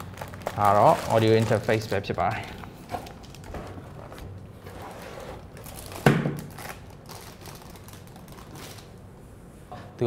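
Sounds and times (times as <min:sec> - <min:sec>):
plastic bag crinkling: 0:00.0 - 0:04.5, 0:05.4 - 0:09.0.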